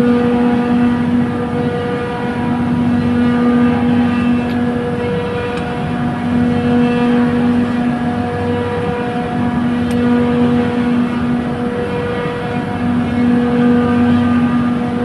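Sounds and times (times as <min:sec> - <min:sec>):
chiller compressor humming: 0:00.0 - 0:15.0.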